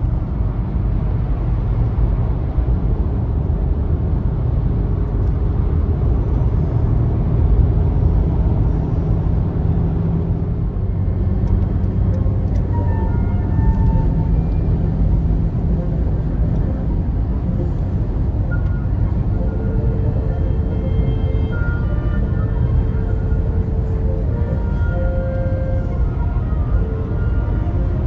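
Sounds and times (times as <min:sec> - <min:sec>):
car cabin road and engine noise: 0:00.0 - 0:28.0.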